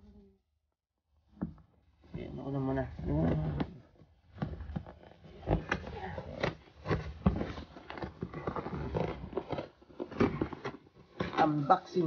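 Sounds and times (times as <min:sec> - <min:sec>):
rustling: 0:01.4 - 0:12.0.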